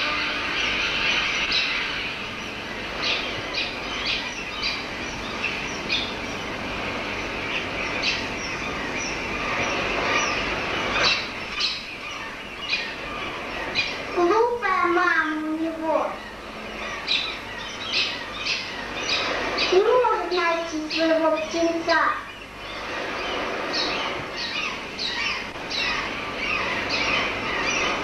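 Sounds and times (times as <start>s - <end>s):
din of bird cries: 0.0s - 28.0s.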